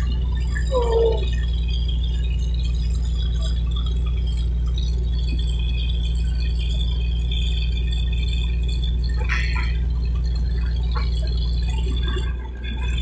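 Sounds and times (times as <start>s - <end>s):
drilling rig droning: 0.0s - 13.0s.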